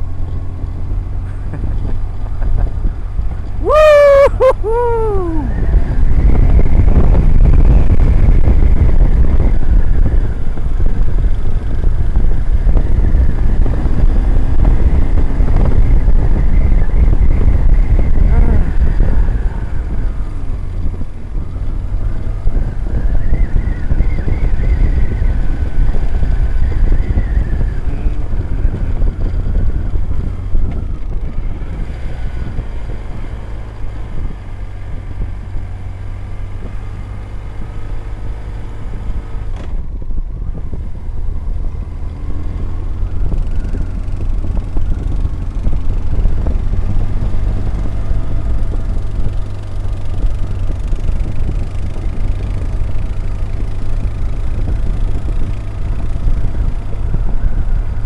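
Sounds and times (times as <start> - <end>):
heavy wind noise: 0.0 - 58.0
motorcycle engine drone: 0.0 - 58.0.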